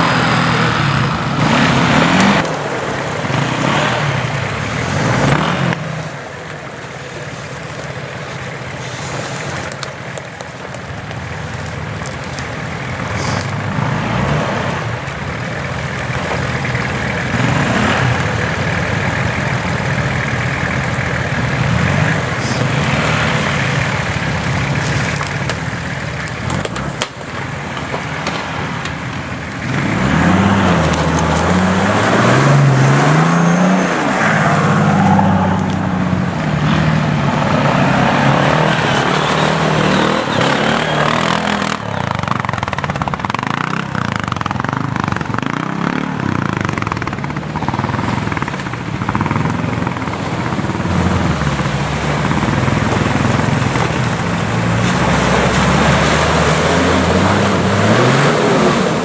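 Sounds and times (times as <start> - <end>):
vehicle engine under load: 0.0 - 59.0.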